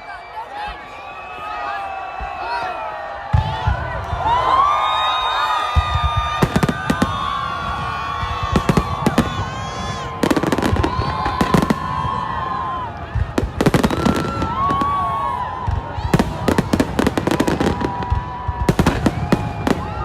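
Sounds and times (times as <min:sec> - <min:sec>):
voices of a large crowd: 0:00.0 - 0:20.0
fireworks bangs and crackling: 0:03.2 - 0:20.0.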